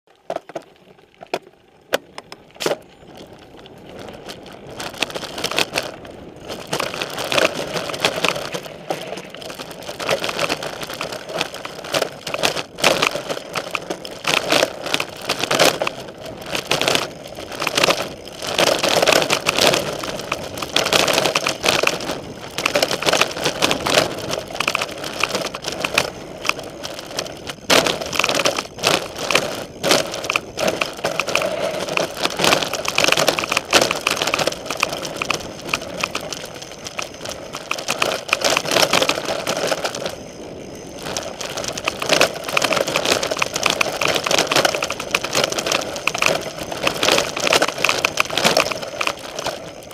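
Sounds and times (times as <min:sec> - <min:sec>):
bike rattling over bumps: 0:00.1 - 0:49.9
tyre crunching over dirt: 0:00.1 - 0:49.9.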